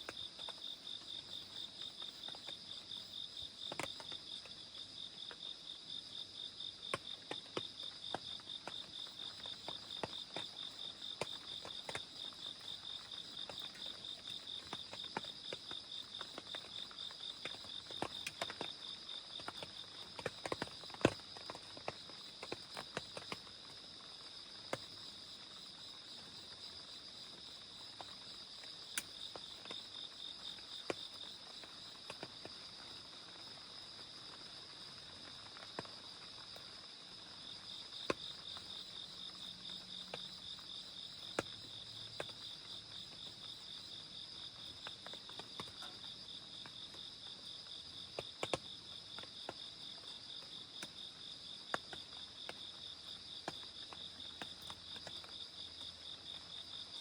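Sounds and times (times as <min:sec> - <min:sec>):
rain drips tapping: 0:03.6 - 0:05.5, 0:06.8 - 0:25.8, 0:27.4 - 0:57.0.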